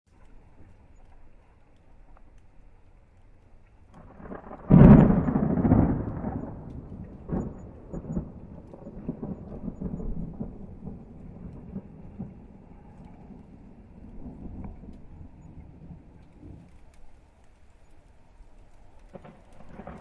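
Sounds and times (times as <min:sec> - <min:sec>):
thunder crack and rolling rumble: 0:03.8 - 0:20.0.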